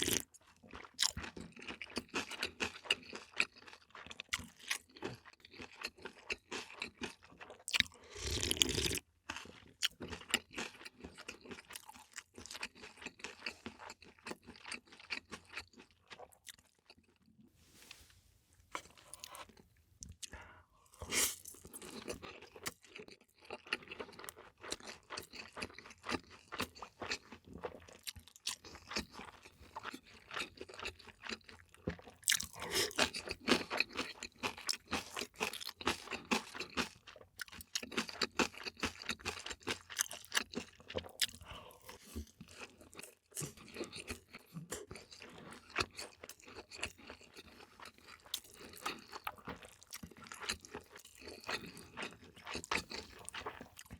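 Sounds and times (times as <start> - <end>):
person chewing and crunching food: 0.0 - 53.9.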